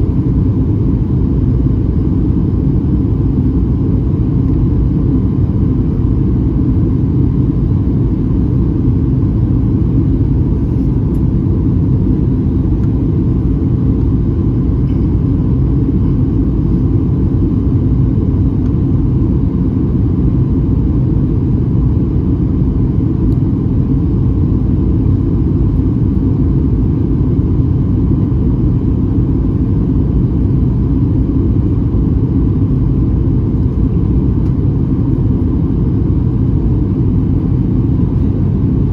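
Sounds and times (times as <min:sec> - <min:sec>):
faint steady whine: 0:00.0 - 0:38.9
jet engine cabin rumble: 0:00.0 - 0:38.9.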